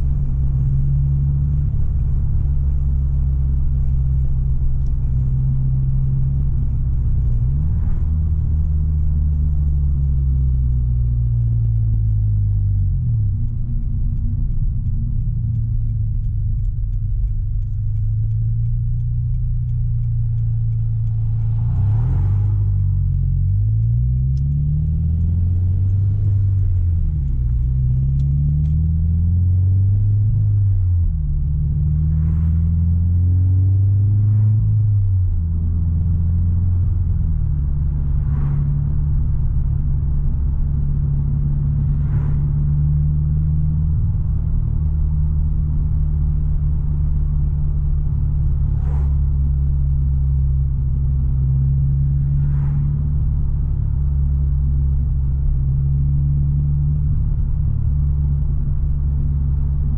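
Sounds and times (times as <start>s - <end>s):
car engine with loud exhaust: 0.0s - 59.9s.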